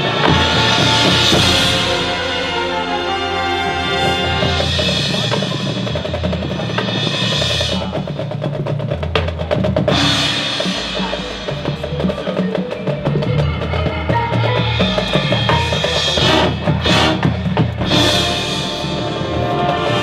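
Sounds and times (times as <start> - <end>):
marching band winds: 0.0 - 20.0
snare and bass drums: 0.0 - 20.0.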